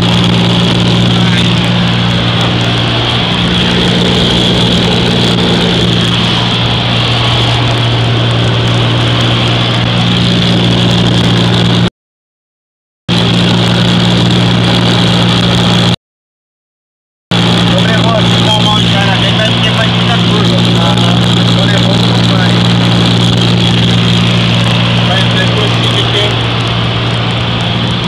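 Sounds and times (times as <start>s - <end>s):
light aircraft engine droning: 0.0s - 11.9s, 13.1s - 16.0s, 17.3s - 28.0s
low hum: 0.0s - 11.9s, 13.1s - 16.0s, 17.3s - 28.0s
wind noise: 0.0s - 11.9s, 13.1s - 16.0s, 17.3s - 28.0s.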